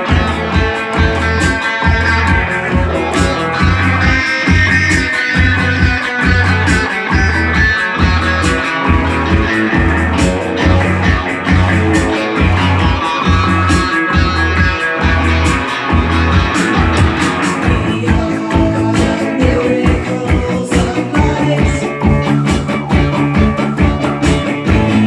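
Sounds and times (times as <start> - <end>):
bass guitar pulse: 0.0 - 25.0
electric guitar: 0.0 - 25.0.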